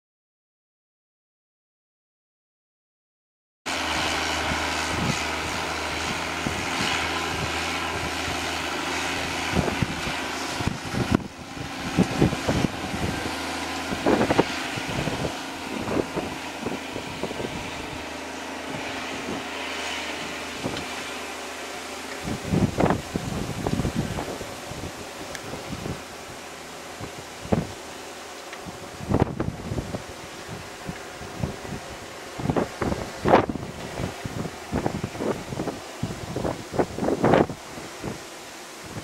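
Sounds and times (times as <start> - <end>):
tractor diesel engine drone: 3.7 - 39.0
wind buffeting microphone: 3.7 - 39.0.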